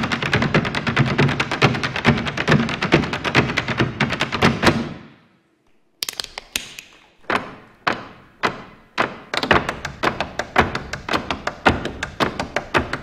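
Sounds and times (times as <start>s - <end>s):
hard shoes tapping rapidly: 0.0s - 4.9s, 7.2s - 13.0s.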